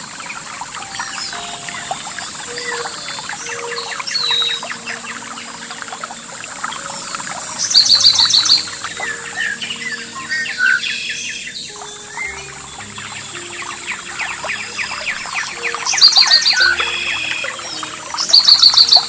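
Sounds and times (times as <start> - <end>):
wild birds singing and chirping: 0.0 - 19.0.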